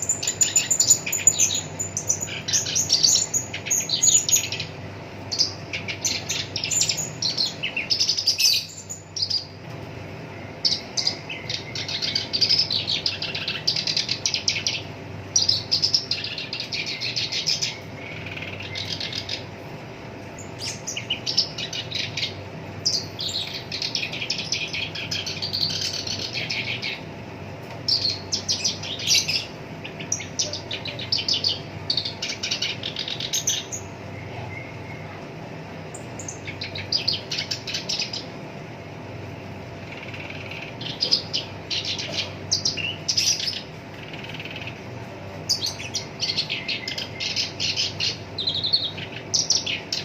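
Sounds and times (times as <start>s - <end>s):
low steady hum: 0.0s - 50.0s
warbler chattering song: 0.0s - 50.0s.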